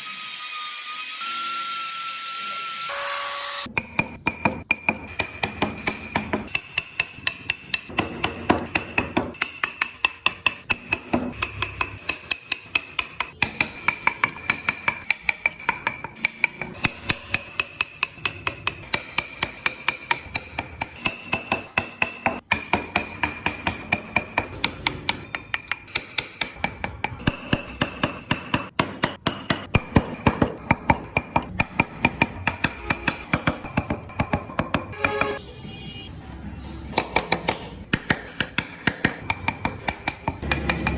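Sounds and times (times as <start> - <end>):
mallet tapping chisel into wood: 3.8 - 35.4, 36.9 - 40.9.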